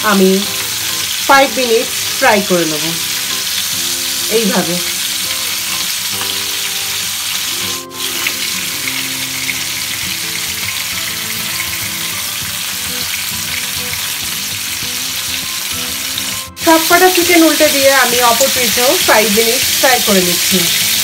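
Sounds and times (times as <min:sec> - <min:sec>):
chicken sizzling in frying pan: 0:00.0 - 0:21.0
soft background music: 0:00.0 - 0:21.0.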